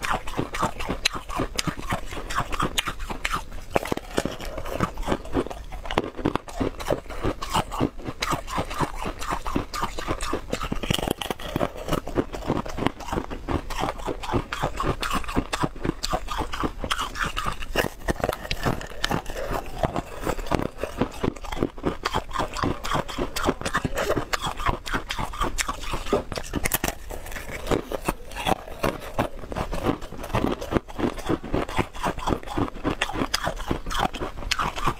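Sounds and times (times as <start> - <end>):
crunchy chewing of frozen block: 0.0 - 34.9.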